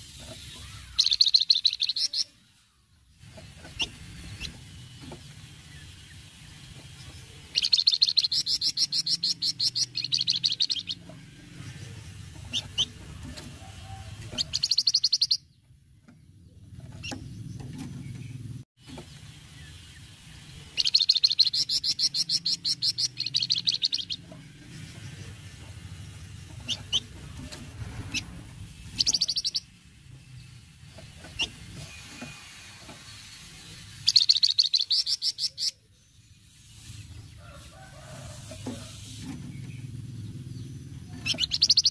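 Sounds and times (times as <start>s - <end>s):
songbird chattering rattles: 0.0s - 2.6s, 3.2s - 41.9s.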